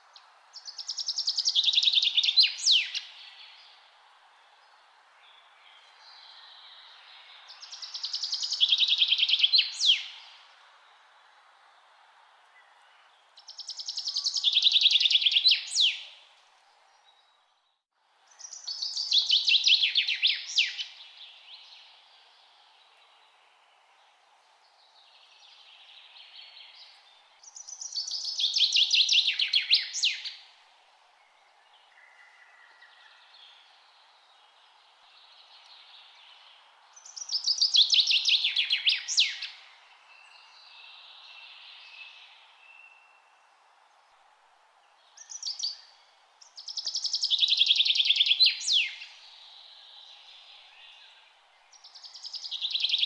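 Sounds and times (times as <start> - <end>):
faint background hiss: 0.0 - 53.0
songbird trilling song: 0.1 - 3.9, 4.6 - 11.0, 12.5 - 16.2, 16.9 - 23.5, 24.8 - 30.6, 31.2 - 44.0, 45.0 - 53.0.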